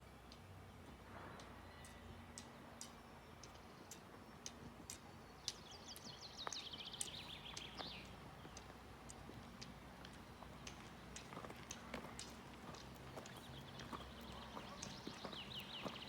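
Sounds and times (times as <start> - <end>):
songbird singing: 0.0 - 16.0
faint regular ticks: 1.4 - 16.0.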